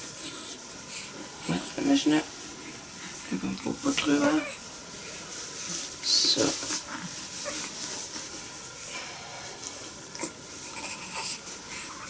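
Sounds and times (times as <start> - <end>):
nappy and clothes rustling: 0.0 - 12.0
steady hiss: 0.0 - 12.0.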